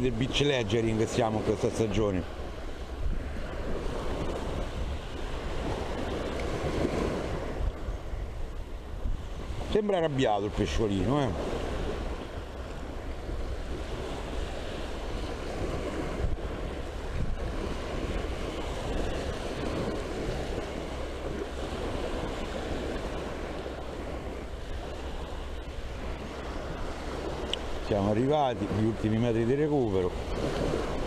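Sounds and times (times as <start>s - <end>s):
small waves washing onto shore: 0.0s - 31.0s
wind buffeting microphone: 0.0s - 31.0s.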